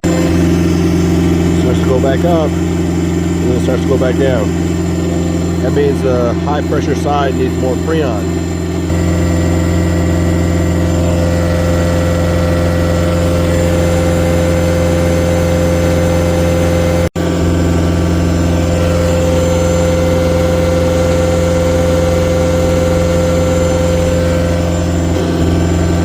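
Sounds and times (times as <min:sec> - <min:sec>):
diesel engine running steadily: 0:00.0 - 0:26.0.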